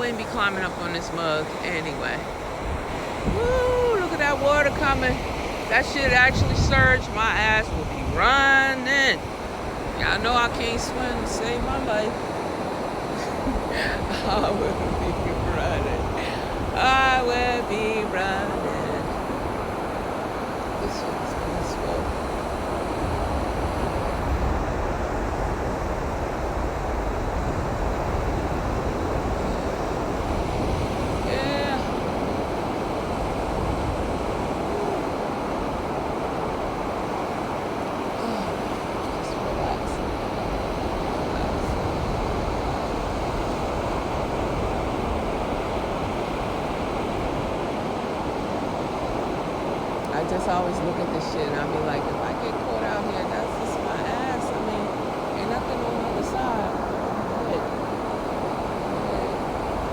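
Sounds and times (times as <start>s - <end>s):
ocean surf washing in: 0.0s - 59.9s
wind buffeting the microphone: 0.0s - 59.9s.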